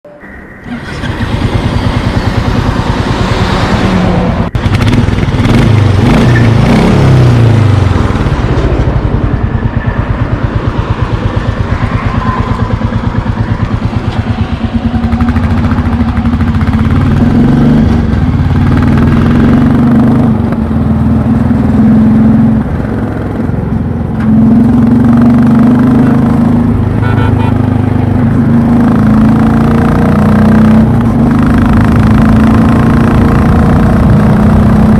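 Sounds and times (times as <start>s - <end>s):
motorcycle engine revving: 0.6s - 34.9s.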